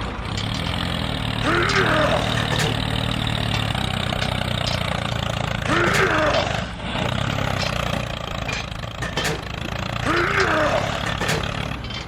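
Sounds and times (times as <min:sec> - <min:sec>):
small motor running: 0:00.0 - 0:12.0.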